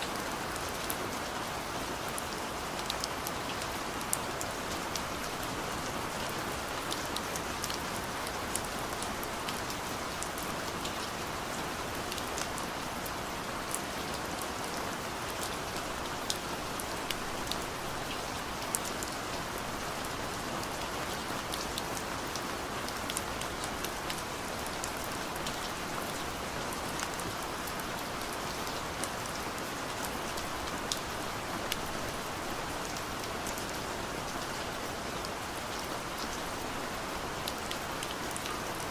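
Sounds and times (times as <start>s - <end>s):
rain falling on a car: 0.0s - 38.9s.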